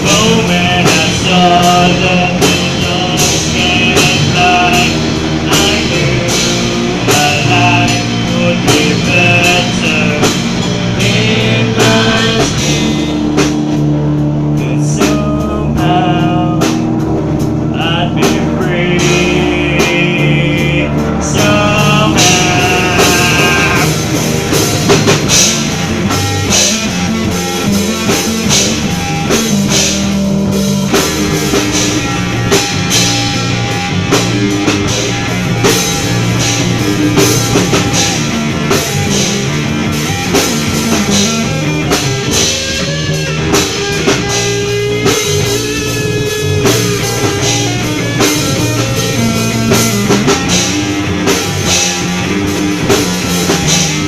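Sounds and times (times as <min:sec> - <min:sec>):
rock music with drums and guitar: 0:00.0 - 0:54.0.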